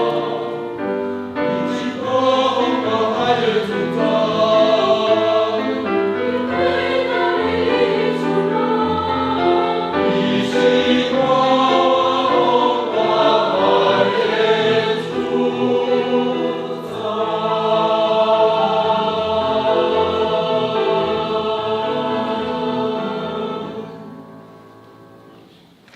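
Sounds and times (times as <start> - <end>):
church choir singing a hymn: 0.0 - 24.7.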